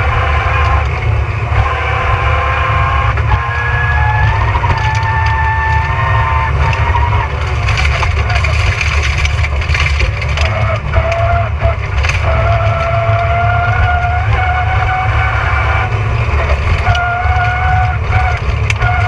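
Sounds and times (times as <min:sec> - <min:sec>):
car engine rumble from cabin: 0:00.0 - 0:19.0
car knocks and rattles: 0:03.0 - 0:19.0.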